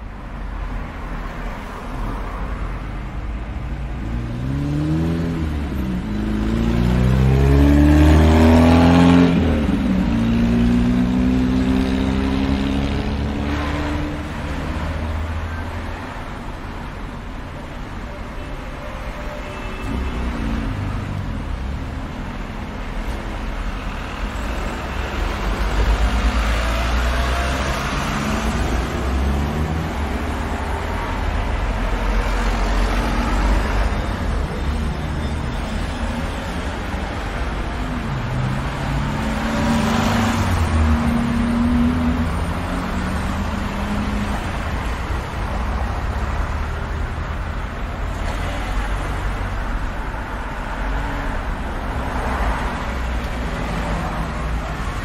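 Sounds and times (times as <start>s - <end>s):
cars passing close by: 0.0s - 17.4s, 19.8s - 55.0s.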